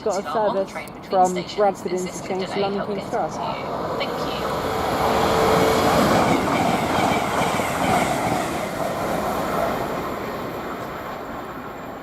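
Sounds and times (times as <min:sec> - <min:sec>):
train wheels rushing on rail: 0:00.0 - 0:12.0.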